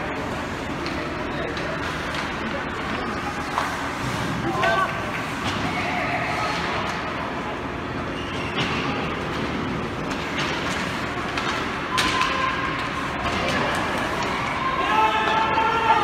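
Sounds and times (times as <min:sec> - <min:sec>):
ice rink crowd din: 0:00.0 - 0:16.0
hockey sticks and puck clacking: 0:00.7 - 0:07.0, 0:08.3 - 0:16.0.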